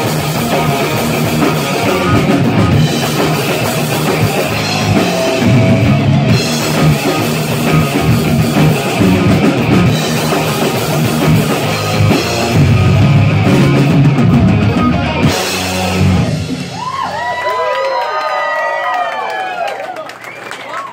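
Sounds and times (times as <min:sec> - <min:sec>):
electric guitar: 0:00.0 - 0:17.4
drum kit: 0:00.0 - 0:17.5.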